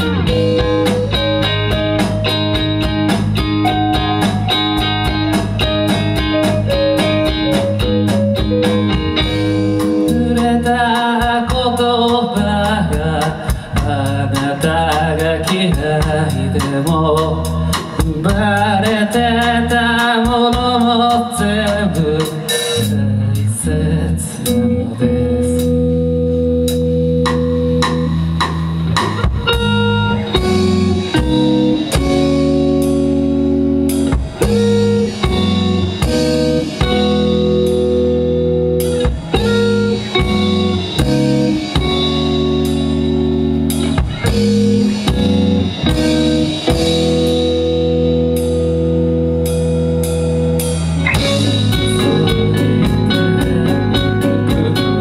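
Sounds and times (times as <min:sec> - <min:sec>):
drum kit steady beat: 0:00.0 - 0:23.0, 0:26.6 - 0:55.0
bass guitar: 0:00.0 - 0:55.0
electric guitar chords: 0:00.0 - 0:55.0.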